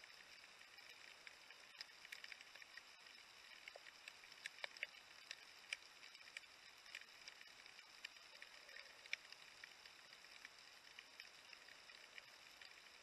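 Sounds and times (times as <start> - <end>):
small clicks and crackles: 0.0 - 13.0.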